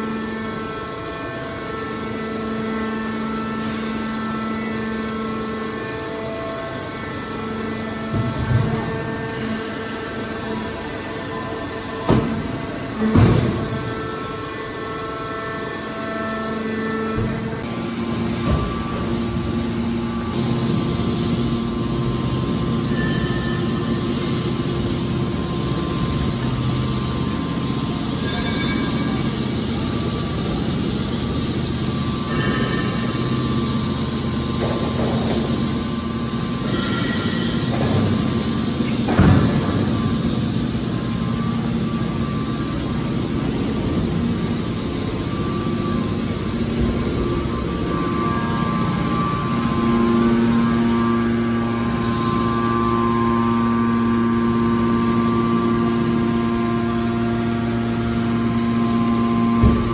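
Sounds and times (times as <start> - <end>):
hydraulic baler motor humming: 0.0 - 59.9.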